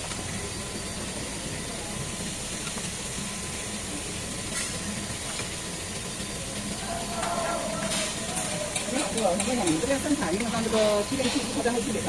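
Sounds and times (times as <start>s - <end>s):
machinery hum and hiss: 0.0s - 12.0s.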